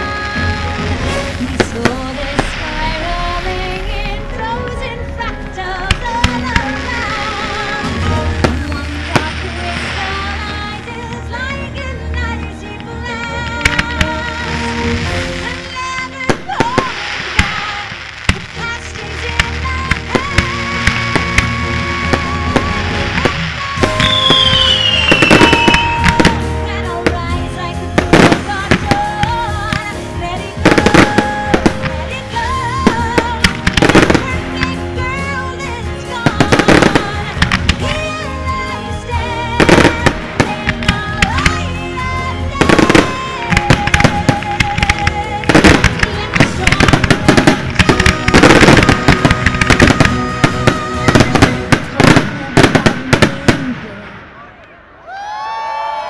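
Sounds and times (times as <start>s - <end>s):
fireworks bursting and crackling: 0.0s - 56.0s
music soundtrack: 0.0s - 56.0s.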